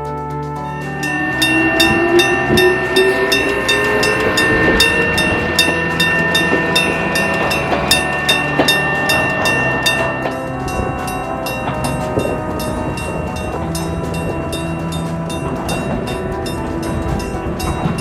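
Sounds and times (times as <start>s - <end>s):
electric train whine: 0.5s - 18.0s
level crossing bell ringing: 0.7s - 18.0s.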